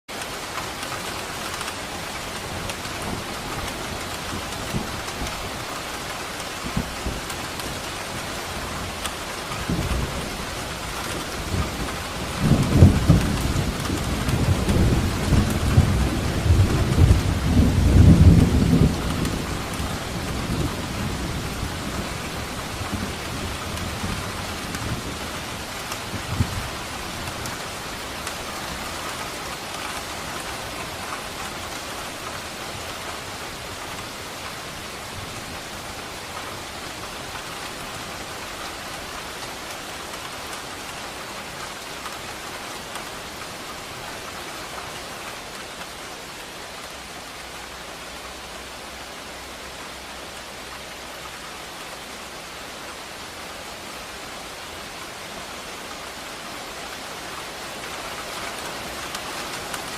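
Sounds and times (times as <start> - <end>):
heavy rain falling: 0.1 - 59.9.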